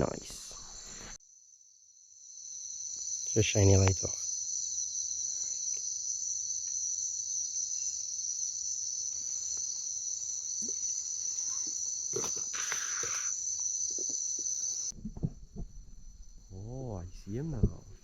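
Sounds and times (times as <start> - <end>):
crickets and katydids trilling: 0.0 - 15.0, 15.7 - 18.0.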